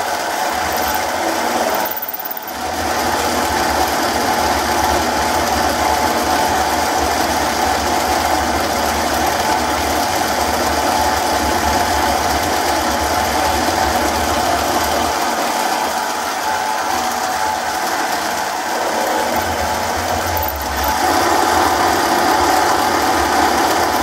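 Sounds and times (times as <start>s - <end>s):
mini lathe running: 0.0s - 24.0s.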